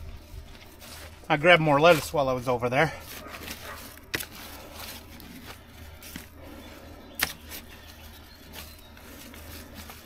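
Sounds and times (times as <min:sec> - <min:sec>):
trowel scraping through bedding: 0:00.3 - 0:10.0.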